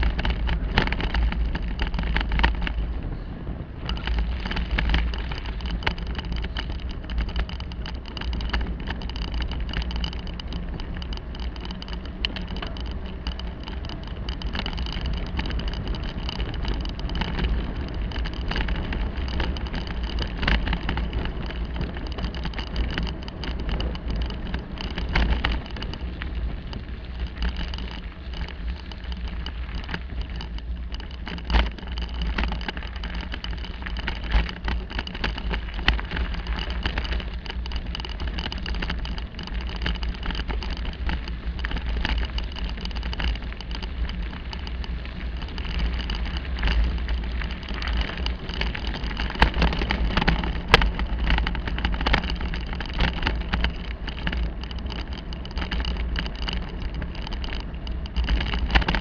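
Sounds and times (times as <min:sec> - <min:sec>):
bicycle rattling over paving: 0:00.0 - 0:59.0
bicycle rolling rumble: 0:00.0 - 0:59.0.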